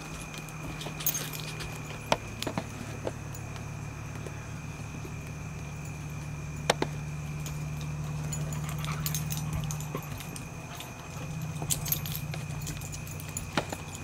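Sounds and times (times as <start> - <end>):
collar tags jingling: 0.0 - 4.1, 5.0 - 14.0
constant high tone: 0.0 - 14.0
steady low hum: 0.0 - 14.0.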